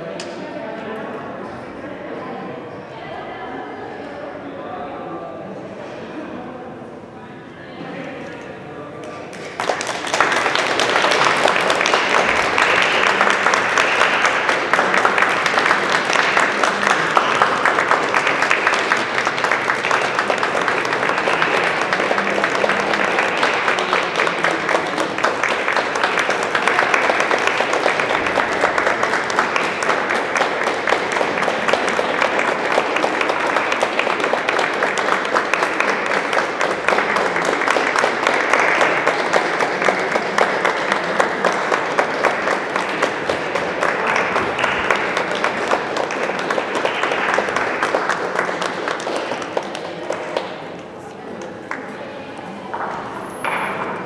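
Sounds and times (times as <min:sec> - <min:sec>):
audience applauding: 0:09.0 - 0:54.0.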